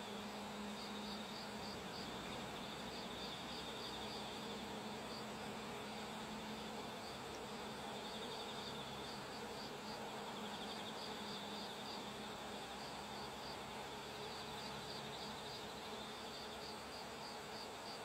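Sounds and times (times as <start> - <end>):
soft outdoor hiss: 0.0 - 18.0
steady insect trill: 0.0 - 18.0.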